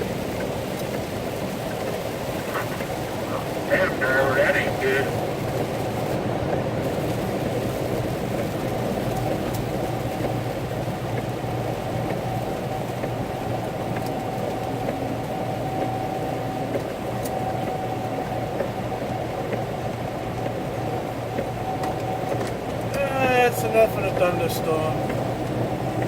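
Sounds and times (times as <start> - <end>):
rain ticking on cab: 0.0 - 26.0
truck cab engine drone: 0.0 - 26.0.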